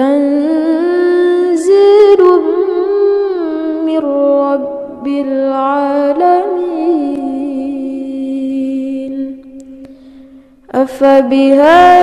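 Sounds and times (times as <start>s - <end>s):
woman chanting recitation: 0.0s - 9.6s, 10.7s - 12.0s.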